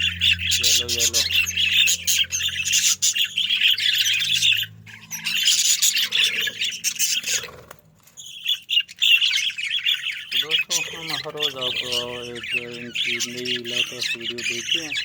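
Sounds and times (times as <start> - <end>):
budgerigars chattering and squawking: 0.0 - 15.0.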